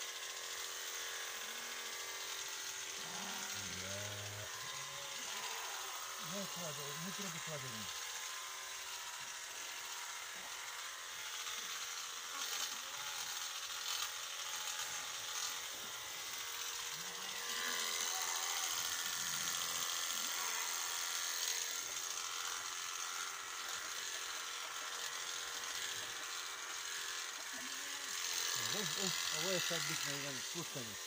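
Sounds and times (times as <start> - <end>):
electric shearing clippers running: 0.0 - 31.0.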